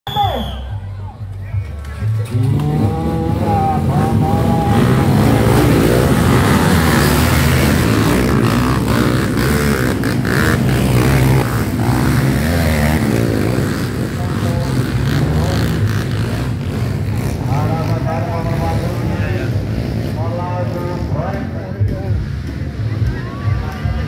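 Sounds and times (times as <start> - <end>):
trail bike engines revving: 0.1 - 24.0.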